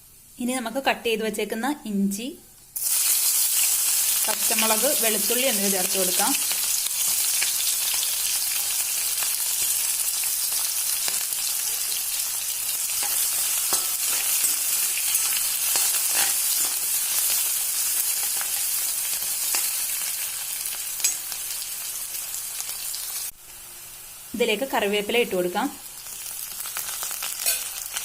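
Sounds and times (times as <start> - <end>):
spices sizzling in hot oil: 2.7 - 28.0.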